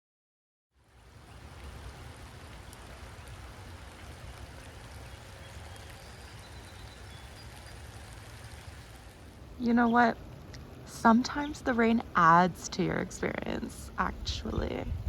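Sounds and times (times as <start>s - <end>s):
steady rain falling: 0.8s - 15.0s.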